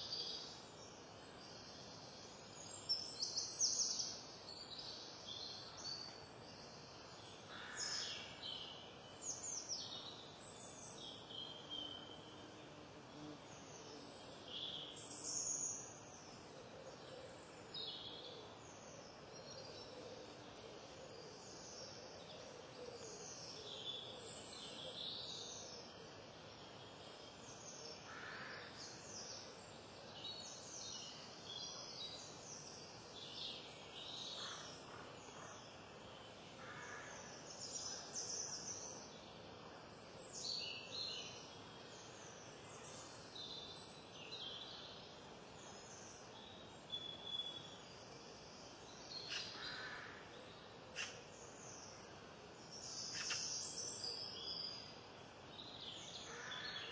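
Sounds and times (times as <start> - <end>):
faint background hiss: 0.0 - 56.9.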